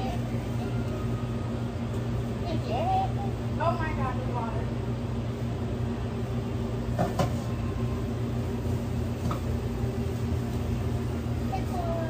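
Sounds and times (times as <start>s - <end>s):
kitchen equipment hum: 0.0s - 12.0s.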